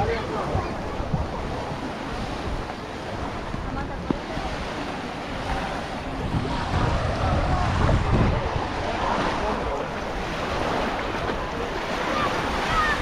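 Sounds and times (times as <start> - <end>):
waves washing onto beach: 0.0 - 13.0
wind rumbling on microphone: 0.0 - 13.0.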